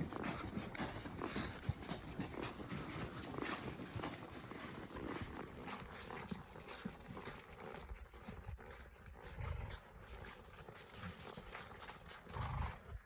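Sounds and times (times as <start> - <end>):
hooves clopping: 0.0 - 13.0.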